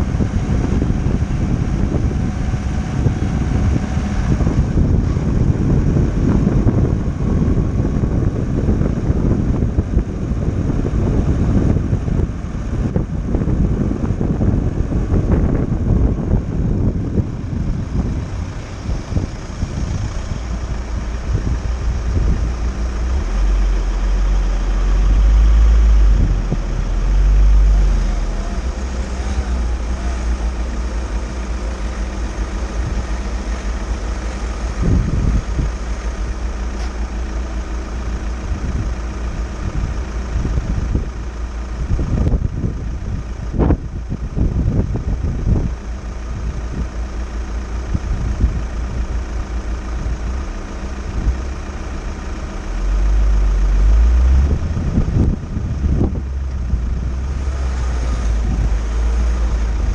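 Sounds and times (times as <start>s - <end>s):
diesel engine idling: 0.0s - 59.9s
wind rumbling on microphone: 0.0s - 59.9s.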